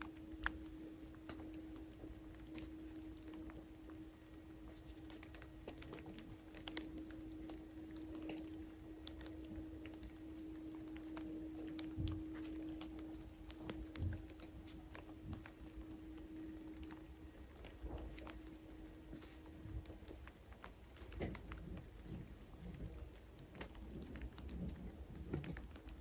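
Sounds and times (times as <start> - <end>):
faint irregular clicks and taps: 0.0 - 26.0
steady low hum: 0.0 - 26.0.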